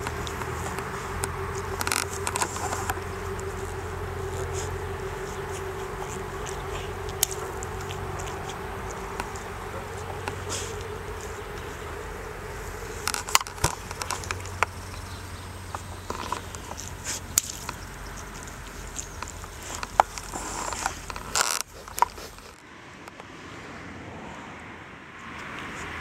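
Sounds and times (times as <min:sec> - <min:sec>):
background hiss: 0:00.0 - 0:22.6.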